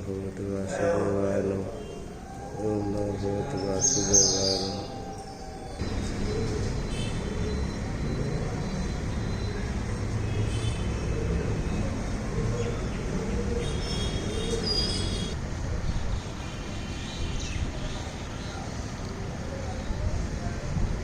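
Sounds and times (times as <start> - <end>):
loud rumbling ceremony din: 0.0 - 21.0.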